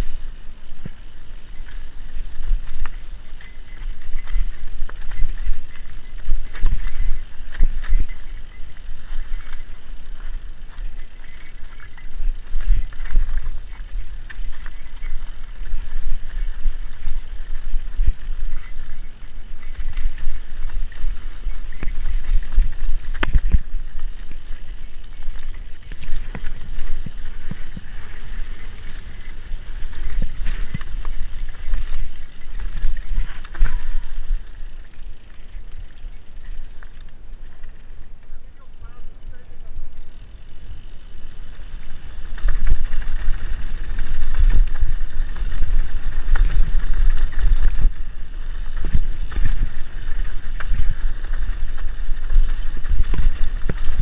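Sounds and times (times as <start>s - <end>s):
bike tyre rumble: 0.0s - 54.0s
bike knocks and rattles: 0.7s - 37.8s, 41.4s - 54.0s.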